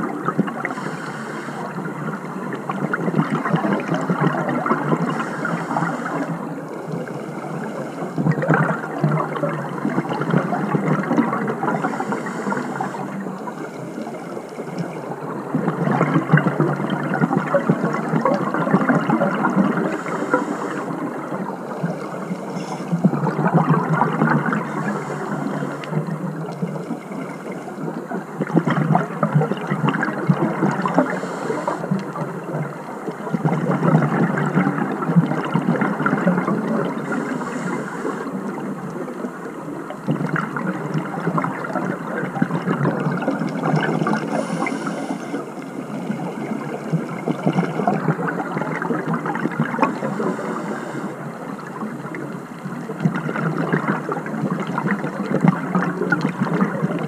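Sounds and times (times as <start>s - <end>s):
exhaled bubbles gurgling underwater: 0.0s - 57.0s.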